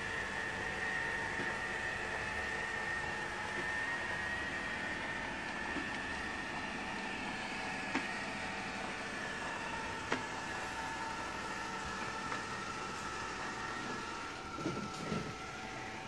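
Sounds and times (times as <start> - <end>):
robot vacuum motor whine: 0.0 - 16.0.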